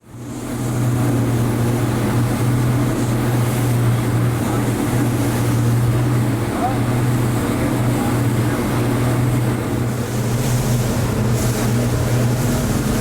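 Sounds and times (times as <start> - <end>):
motorboat engine droning: 0.0 - 13.0
wind and water hiss: 0.1 - 13.0.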